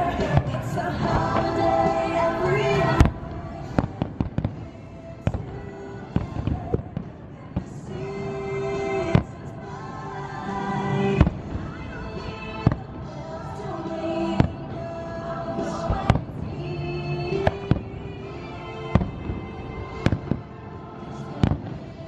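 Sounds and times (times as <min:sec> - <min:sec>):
fireworks bangs and crackles: 0:00.0 - 0:14.9, 0:15.6 - 0:22.0
christmas music: 0:00.0 - 0:22.0.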